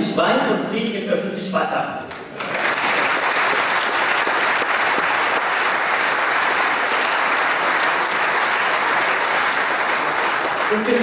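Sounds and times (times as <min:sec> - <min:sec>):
large audience applauding: 0:02.1 - 0:11.0.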